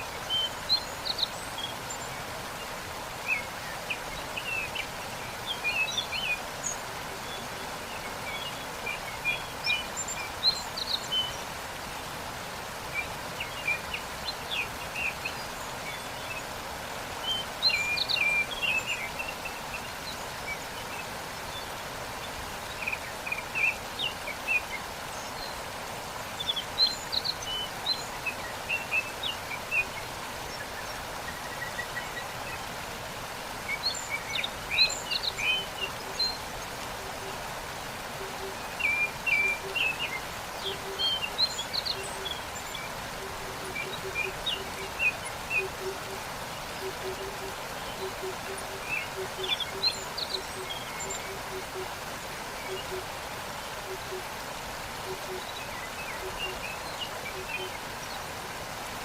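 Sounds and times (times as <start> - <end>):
songbirds chirping and trilling: 0.0 - 59.0
waterfall rushing: 0.0 - 59.0.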